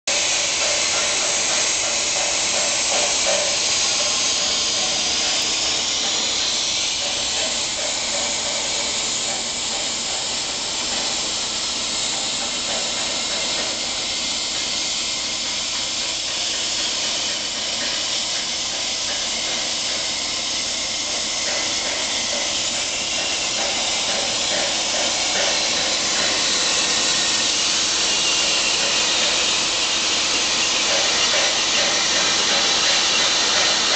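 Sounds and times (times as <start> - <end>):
plasma arc hissing: 0.1 - 33.9.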